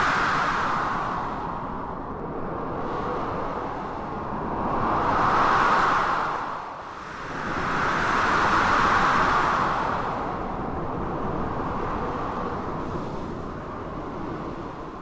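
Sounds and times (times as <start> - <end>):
howling blizzard wind: 0.0 - 15.0.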